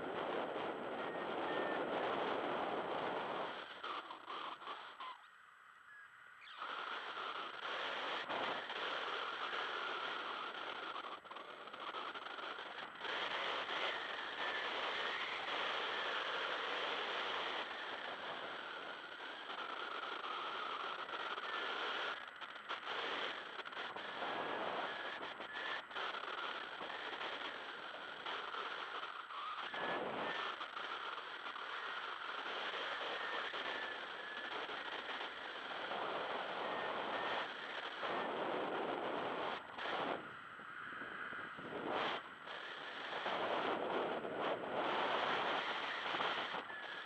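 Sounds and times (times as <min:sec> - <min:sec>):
wind rushing over microphone: 0:00.0 - 0:05.0, 0:06.6 - 0:47.0.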